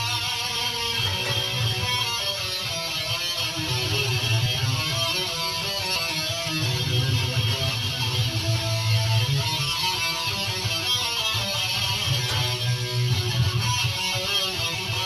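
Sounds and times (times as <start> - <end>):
electric guitar riff: 0.0 - 15.0.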